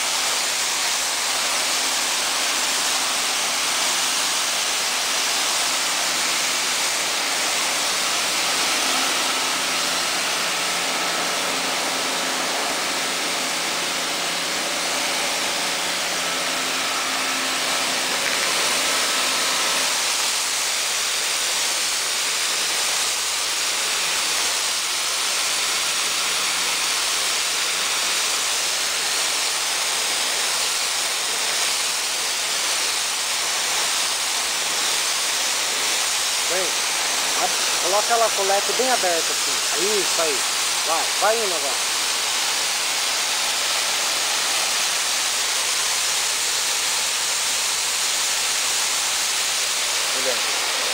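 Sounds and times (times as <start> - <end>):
cleaning machine rushing hiss: 0.0 - 50.9.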